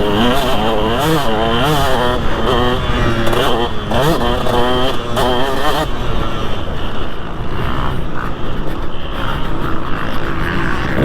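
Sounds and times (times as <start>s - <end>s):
motocross engine revving: 0.0s - 11.0s.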